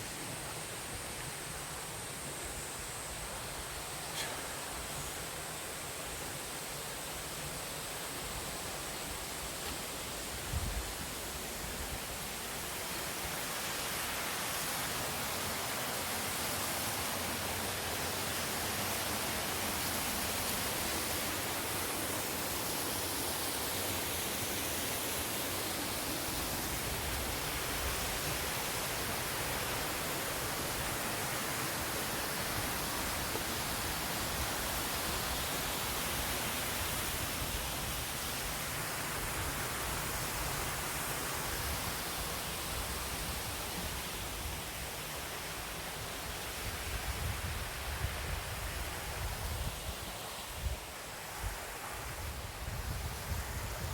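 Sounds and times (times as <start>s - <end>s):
rushing mountain water: 0.0s - 53.9s.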